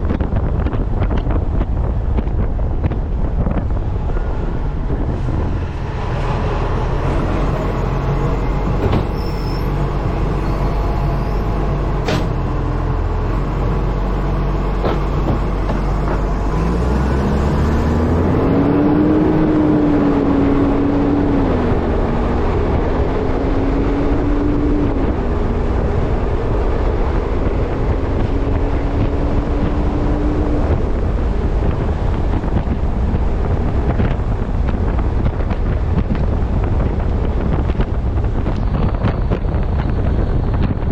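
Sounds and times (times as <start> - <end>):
truck diesel engine accelerating: 0.0 - 40.9
wind buffeting camera: 0.0 - 40.9.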